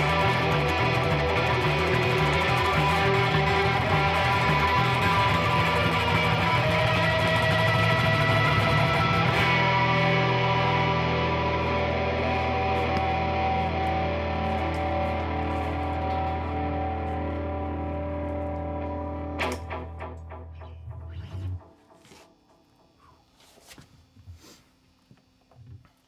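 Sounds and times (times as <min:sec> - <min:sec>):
band playing guitar-led instrumental: 0:00.0 - 0:21.7.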